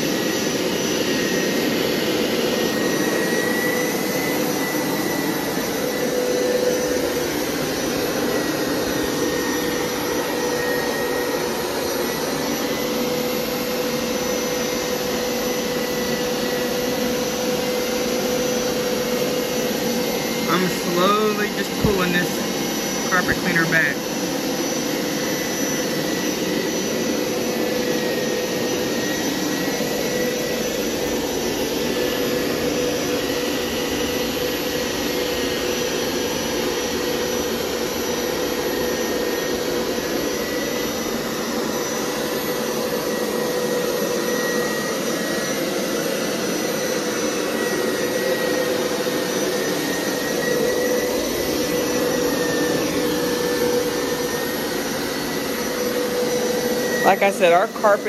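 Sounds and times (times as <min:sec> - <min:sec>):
carpet cleaner running: 0:00.0 - 0:58.0.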